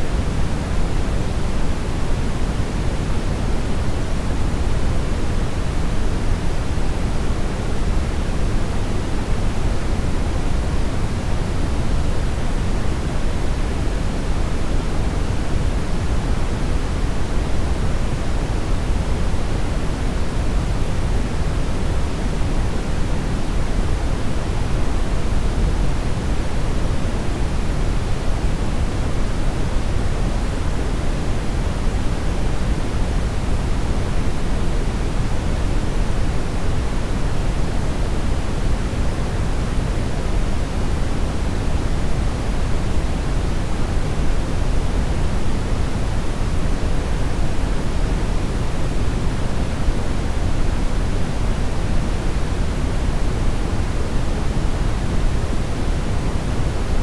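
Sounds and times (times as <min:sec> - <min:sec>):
brown noise rumbling hiss: 0:00.0 - 0:57.0.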